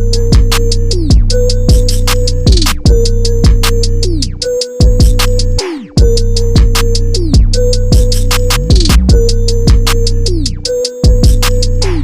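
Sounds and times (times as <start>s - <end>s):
hip hop electronic music: 0.0s - 12.0s.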